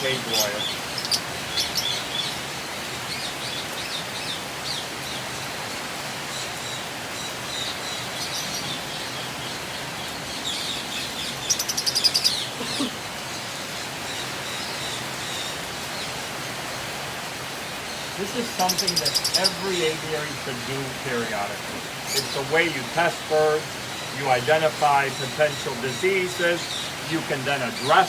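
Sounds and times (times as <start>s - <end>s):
lovebirds chirping: 0.0s - 5.5s, 6.2s - 28.0s
steady background hiss: 0.0s - 28.0s.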